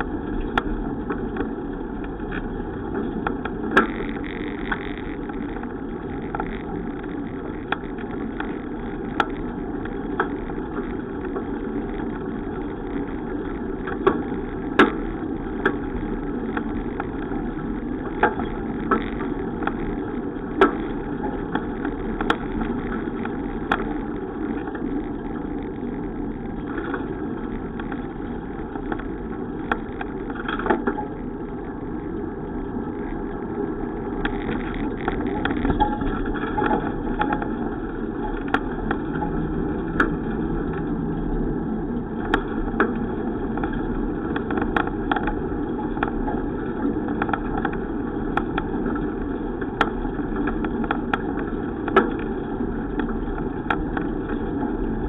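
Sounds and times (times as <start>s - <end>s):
bicycle clicks and rattles: 0.0s - 55.0s
road and wind noise: 0.0s - 55.0s.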